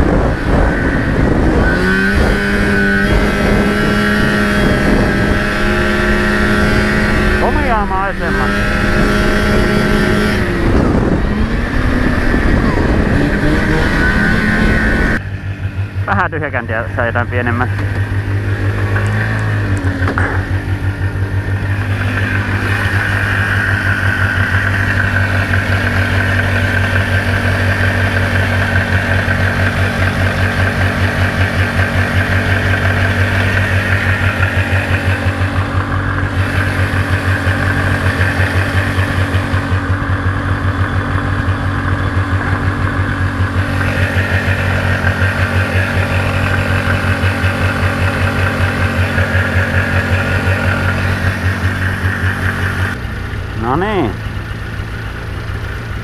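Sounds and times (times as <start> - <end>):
snowmobile engine idling: 0.0 - 56.0.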